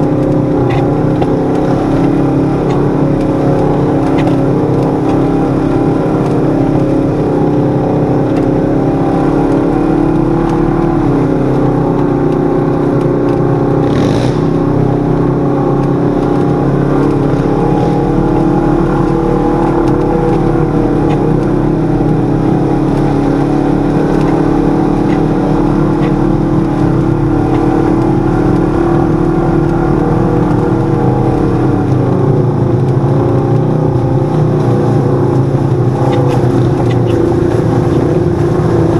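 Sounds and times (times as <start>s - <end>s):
utility vehicle engine cruising: 0.0s - 38.9s.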